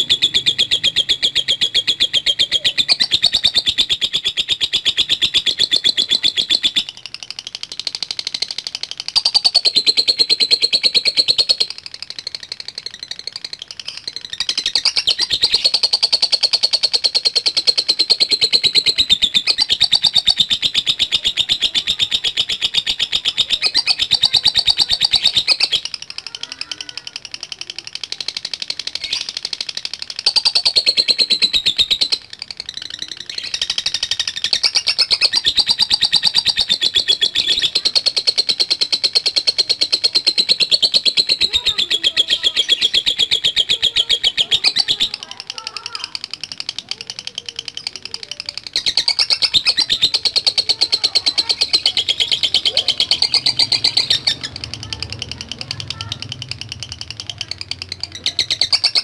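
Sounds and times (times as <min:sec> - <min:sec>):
lovebird rattling chatter: 0:00.0 - 0:59.0.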